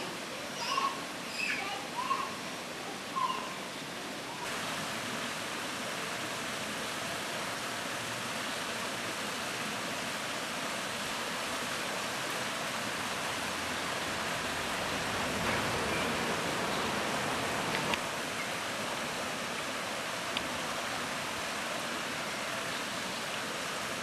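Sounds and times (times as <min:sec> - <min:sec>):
running water rushing: 0:00.0 - 0:24.0.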